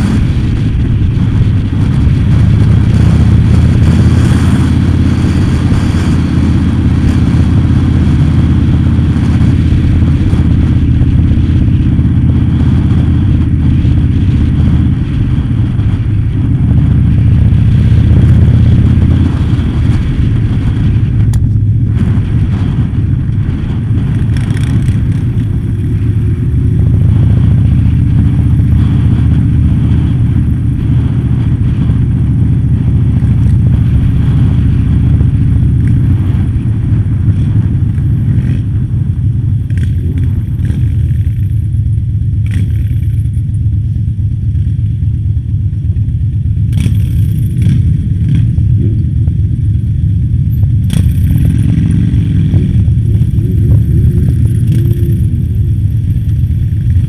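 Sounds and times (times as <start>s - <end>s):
motorcycle engine running: 0.0s - 57.0s
other motorcycle engines: 0.0s - 57.0s.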